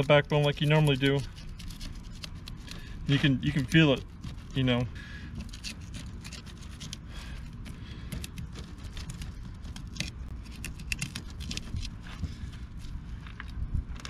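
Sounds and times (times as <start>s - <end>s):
knife cutting through scales: 0.0s - 12.1s
steady low rumble: 0.0s - 14.0s.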